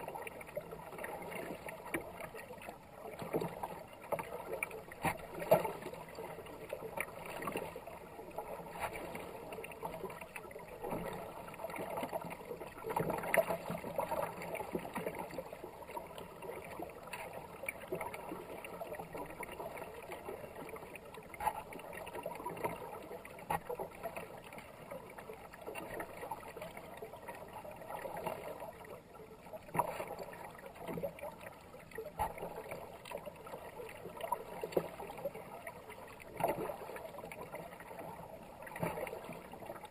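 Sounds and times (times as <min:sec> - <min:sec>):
paddle strokes splashing: 0:00.0 - 0:39.9.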